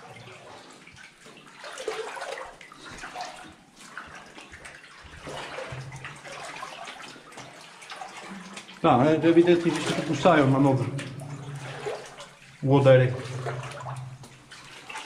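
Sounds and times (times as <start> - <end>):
water sloshing around wading legs: 0.0 - 15.0.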